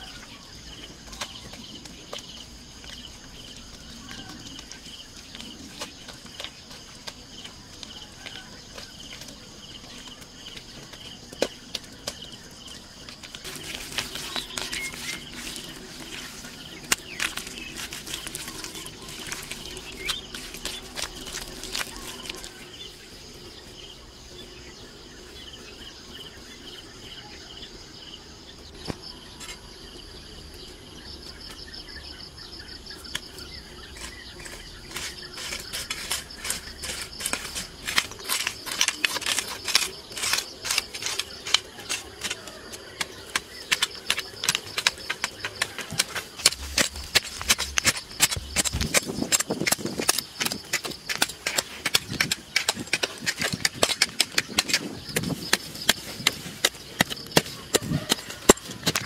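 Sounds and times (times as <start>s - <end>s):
hoes chopping into dry soil: 0.0s - 23.0s, 32.9s - 59.0s
insects calling: 0.0s - 59.0s.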